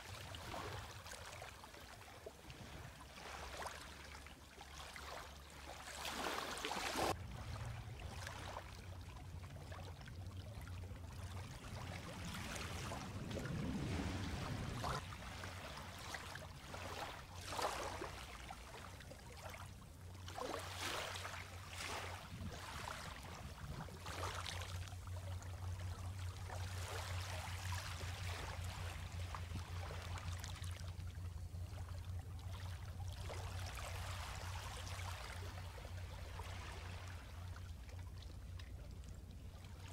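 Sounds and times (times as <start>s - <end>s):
small waves lapping on sand: 0.0s - 39.9s
steady low hum: 7.1s - 39.9s.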